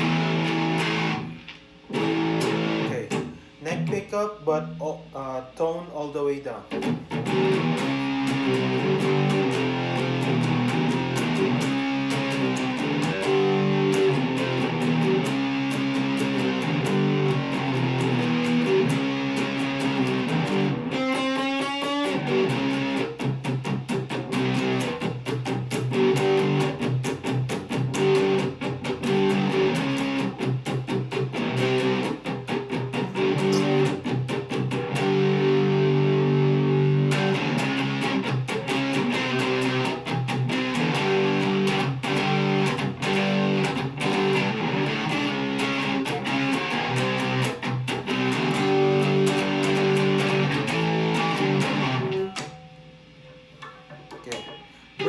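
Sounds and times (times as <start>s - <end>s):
electric guitar strumming: 0.0s - 55.0s.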